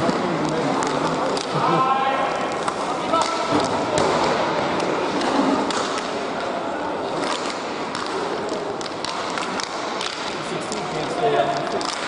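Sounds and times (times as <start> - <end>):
sticks and puck clacking: 0.0 - 12.0.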